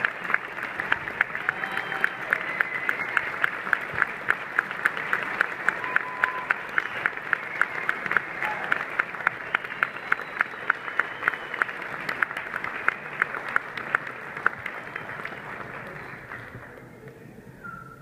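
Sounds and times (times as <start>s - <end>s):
audience applauding: 0.0s - 17.2s.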